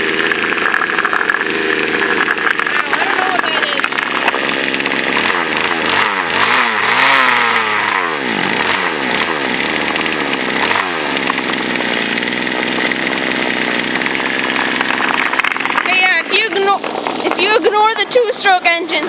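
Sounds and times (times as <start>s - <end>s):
chainsaw engine screaming: 0.0s - 19.0s.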